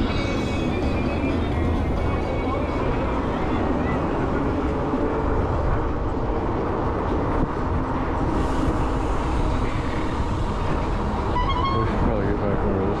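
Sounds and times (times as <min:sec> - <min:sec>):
wind and road noise rumble: 0:00.0 - 0:13.0
wind buffeting microphone: 0:00.0 - 0:13.0.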